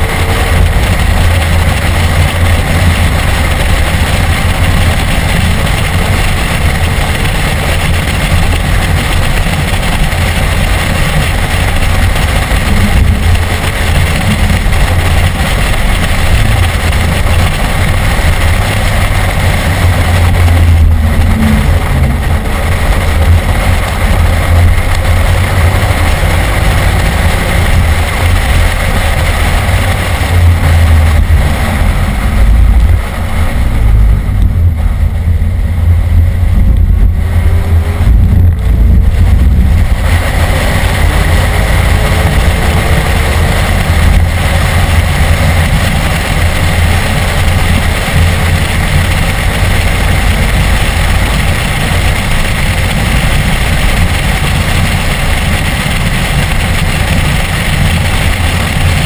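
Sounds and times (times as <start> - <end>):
car engine from inside cabin: 0.0 - 59.0
heavy low rumble: 0.0 - 59.0.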